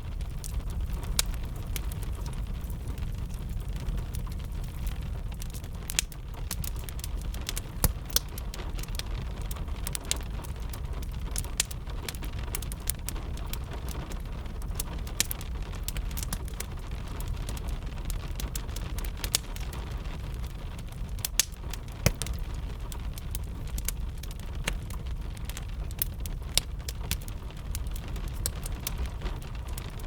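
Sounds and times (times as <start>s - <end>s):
gentle rain: 0.0s - 30.0s
wood fire crackling and popping: 0.0s - 30.0s.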